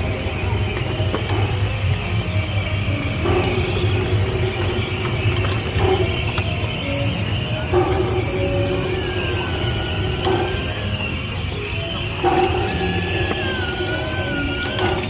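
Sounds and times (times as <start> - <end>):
miniature train rumbling: 0.0 - 15.0
sharp clanks and clicks: 0.0 - 15.0.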